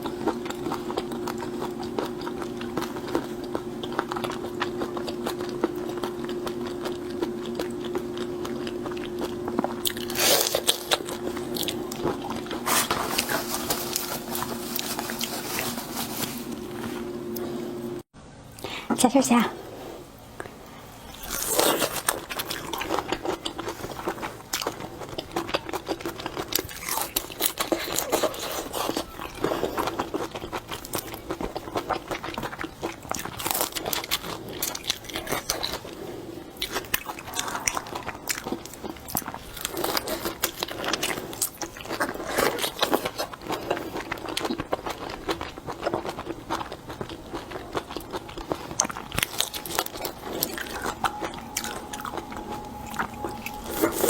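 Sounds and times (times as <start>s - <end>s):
chewing and crunching shrimp: 0.0s - 17.6s, 20.0s - 54.0s.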